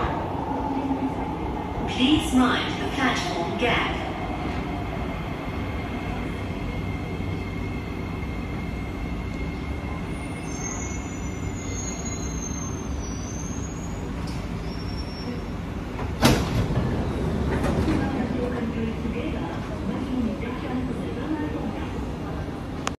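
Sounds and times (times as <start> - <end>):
train interior rumble: 0.0 - 22.9.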